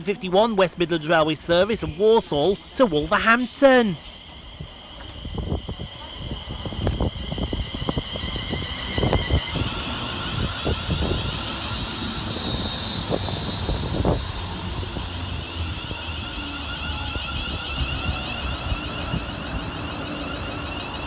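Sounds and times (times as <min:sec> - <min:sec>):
electric train motor whine: 0:01.8 - 0:21.0.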